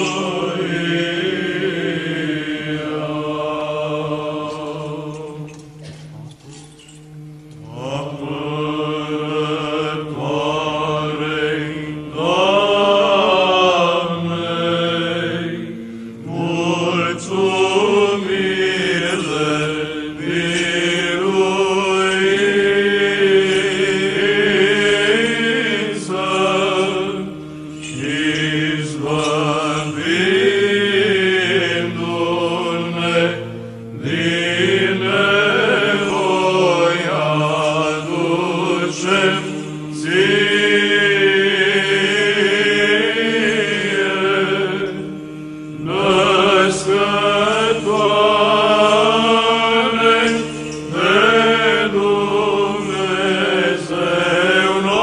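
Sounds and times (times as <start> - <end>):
men chanting a slow melody: 0.0 - 5.9, 7.6 - 55.0
held low drone: 7.5 - 55.0.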